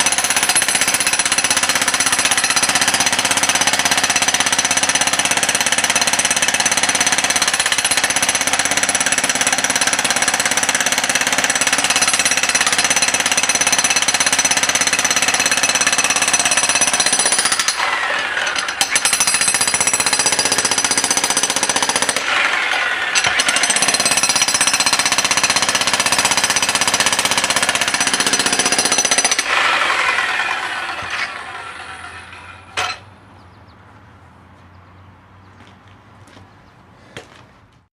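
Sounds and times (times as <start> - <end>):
jackhammer running: 0.0 - 33.0.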